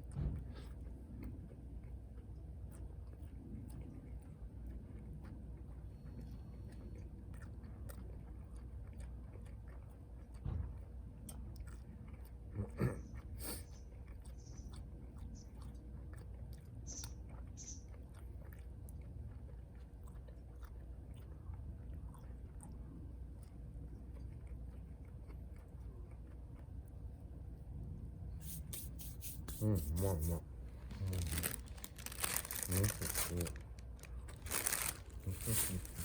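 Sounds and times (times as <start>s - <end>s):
chewing and biting food: 0.0s - 36.0s.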